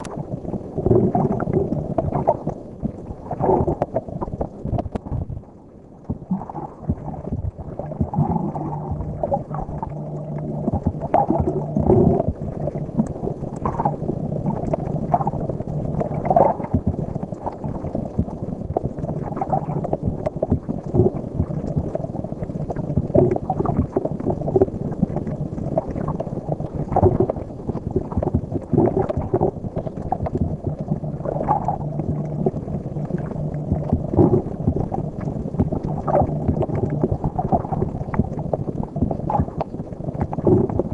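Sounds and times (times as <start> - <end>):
bubbling pops and clicks: 0.0 - 5.4, 6.0 - 40.9
muffled underwater noise: 0.0 - 40.9
steady low hum: 0.0 - 40.9.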